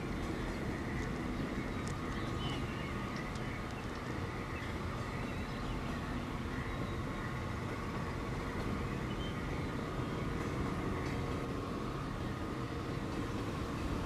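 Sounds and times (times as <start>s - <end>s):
passing train rumble: 0.0s - 14.0s.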